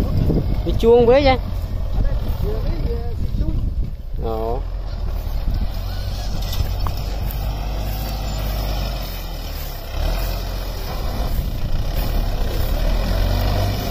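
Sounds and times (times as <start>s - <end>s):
tractor diesel engine under load: 0.0s - 13.9s.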